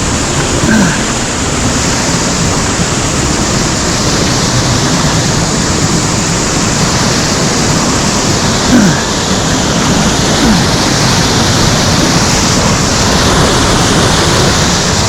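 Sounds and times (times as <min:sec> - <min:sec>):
stream water pouring over rocks: 0:00.0 - 0:15.0.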